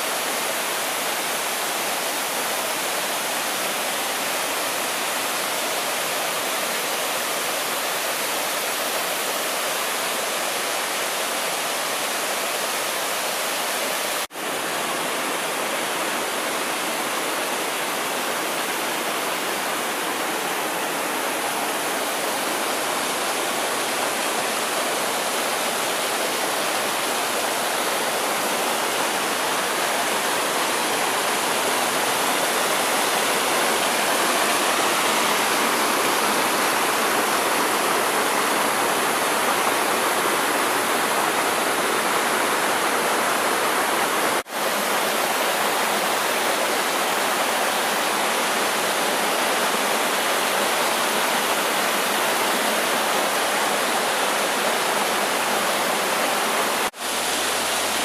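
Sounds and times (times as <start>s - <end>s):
stream and waterfalls rushing: 0.0s - 58.0s.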